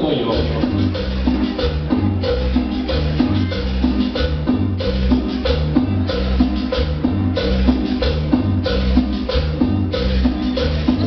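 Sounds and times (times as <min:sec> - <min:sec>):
bass line: 0:00.0 - 0:11.0
cumbia music over sound system: 0:00.0 - 0:11.0
drum and percussion beat: 0:00.0 - 0:11.0.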